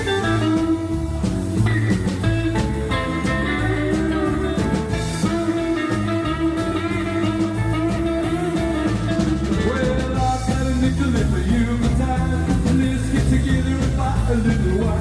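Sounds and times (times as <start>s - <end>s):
electric guitar lead bending notes: 0.0s - 15.0s
live rock band playing: 0.0s - 15.0s.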